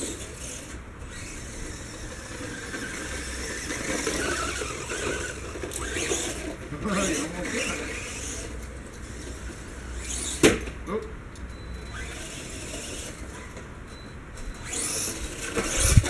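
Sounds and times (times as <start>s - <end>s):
rc truck motor whine: 0.0s - 10.7s, 11.4s - 13.7s, 14.4s - 16.0s.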